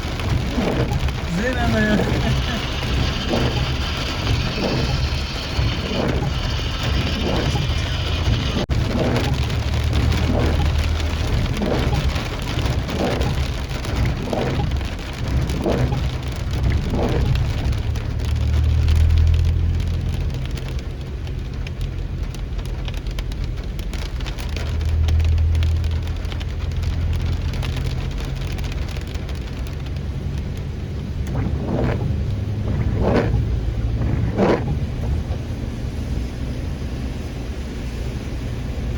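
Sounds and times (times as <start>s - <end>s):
heavy rain falling: 0.0s - 38.9s
low vehicle rumble: 0.0s - 38.9s.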